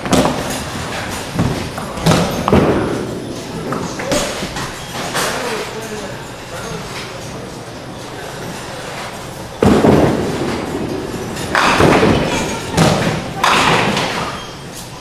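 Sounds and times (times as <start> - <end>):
bowling pins clattering: 0.0 - 15.0.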